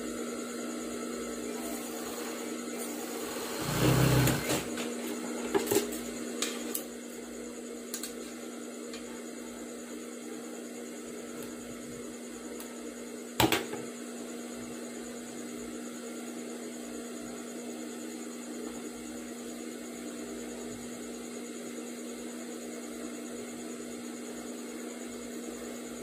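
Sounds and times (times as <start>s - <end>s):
electrical motor hum: 0.0s - 26.0s.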